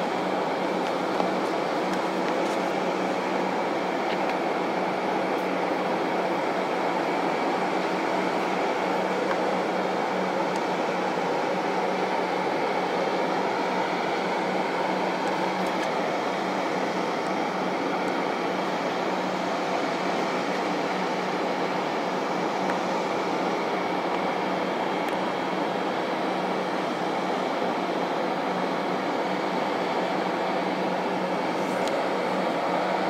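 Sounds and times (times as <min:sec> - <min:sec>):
auxiliary power unit roar: 0:00.0 - 0:33.0.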